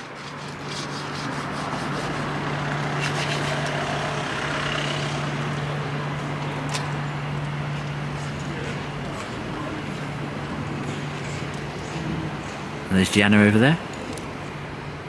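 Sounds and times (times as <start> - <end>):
train engine hum: 0.0 - 15.0.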